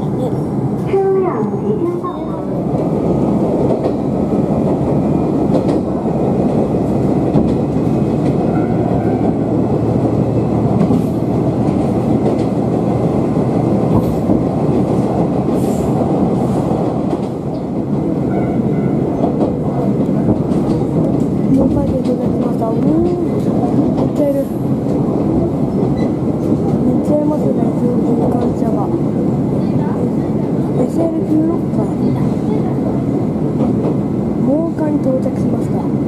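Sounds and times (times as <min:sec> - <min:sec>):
railcar engine and wheels rumbling: 0:00.0 - 0:36.0.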